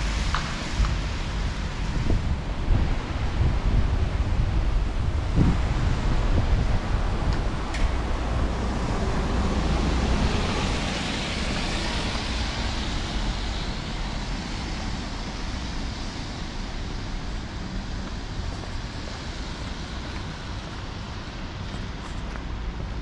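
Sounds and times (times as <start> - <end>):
low traffic rumble: 0.0 - 23.0.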